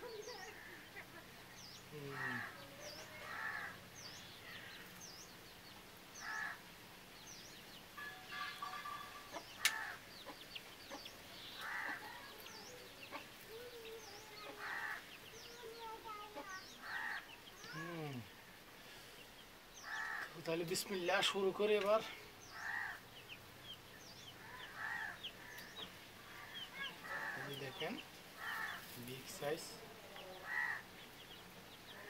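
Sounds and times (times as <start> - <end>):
harsh bird calls: 0.0 - 32.0
small bird chirping: 0.0 - 32.0.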